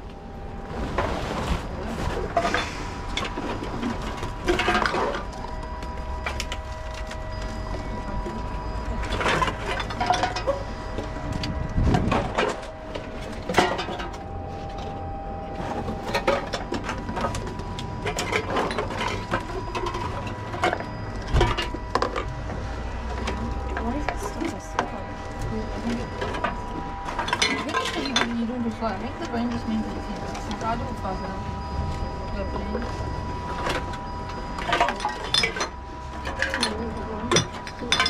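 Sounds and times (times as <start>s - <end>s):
vending machine whirring hum: 0.0s - 38.0s.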